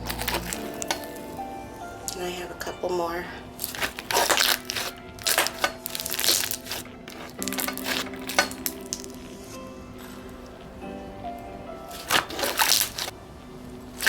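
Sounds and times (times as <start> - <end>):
background music with held tones: 0.0 - 14.0.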